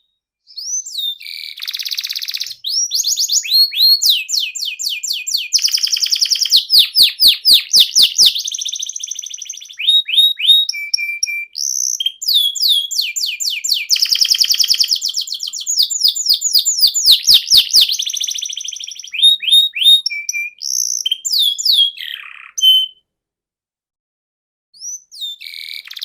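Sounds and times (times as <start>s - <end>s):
canary singing trills: 0.5s - 23.0s, 24.8s - 26.0s.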